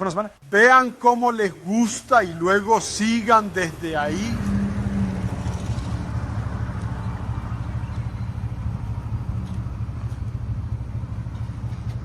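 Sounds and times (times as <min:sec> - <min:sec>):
engine idling low rumble: 0:00.4 - 0:12.0.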